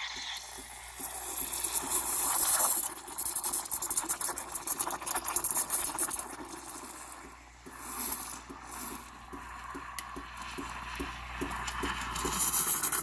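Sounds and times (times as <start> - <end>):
espresso steam wand hissing: 0.0 - 13.0.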